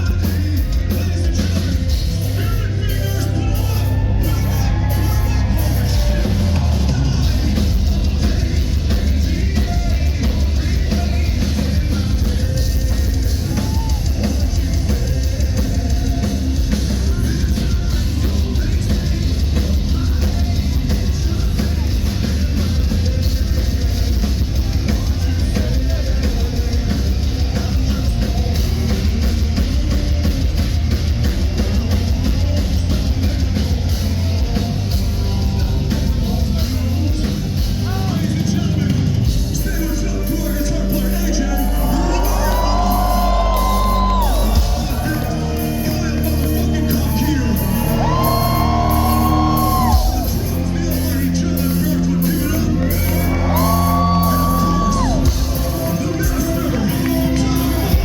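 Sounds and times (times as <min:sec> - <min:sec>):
fast drum hits: 0:00.0 - 0:40.1, 0:41.2 - 0:58.0
heavy metal band playing: 0:00.0 - 0:58.0.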